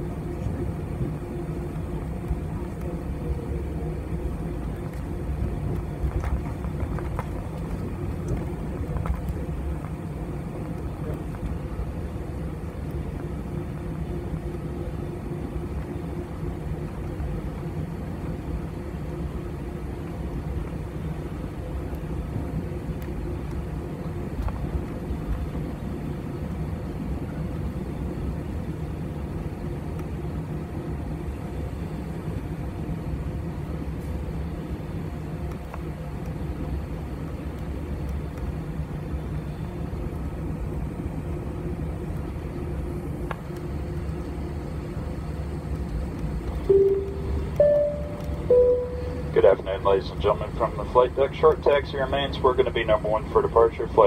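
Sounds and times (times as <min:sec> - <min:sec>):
jet engines low rumble: 0:00.0 - 0:54.0.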